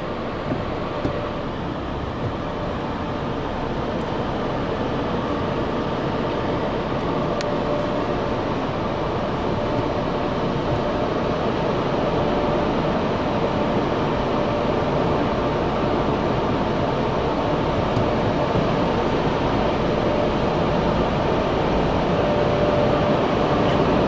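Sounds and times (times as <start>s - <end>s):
car engine rumbling inside cabin: 0.0s - 24.0s.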